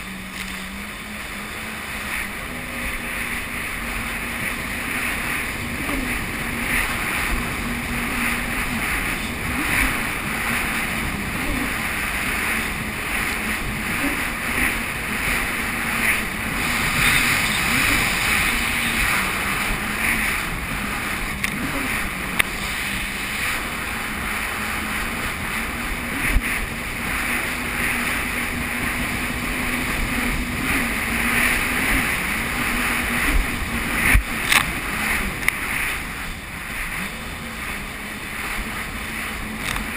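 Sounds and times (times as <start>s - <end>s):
jet ski engine running: 0.0s - 39.9s
wind and water rushing: 0.0s - 39.9s.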